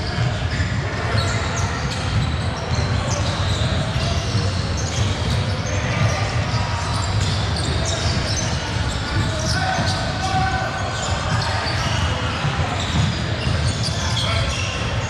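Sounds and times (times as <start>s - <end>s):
basketball bouncing on court: 0.0s - 15.0s
players' footwork: 0.0s - 15.0s
players' voices: 0.0s - 15.0s.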